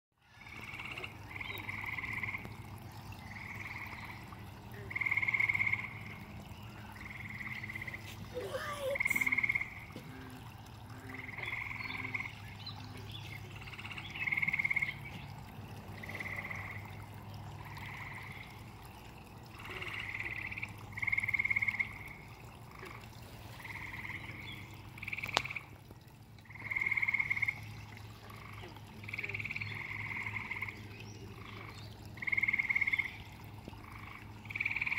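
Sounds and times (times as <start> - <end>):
frogs trilling: 0.2 - 25.8, 26.4 - 34.9.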